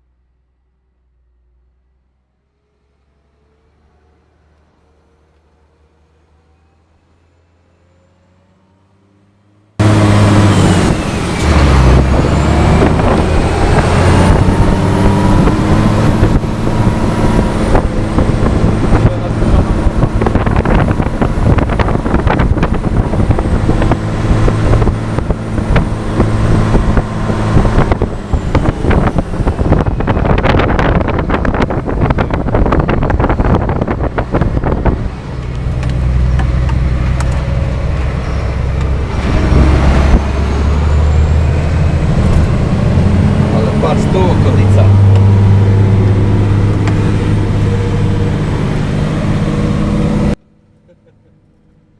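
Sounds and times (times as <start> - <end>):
truck diesel engine droning: 0.0 - 51.9.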